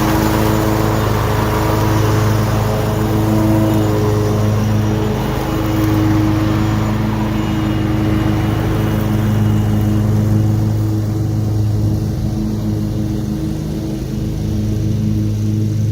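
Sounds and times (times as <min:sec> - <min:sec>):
mower engine running: 0:00.0 - 0:15.9.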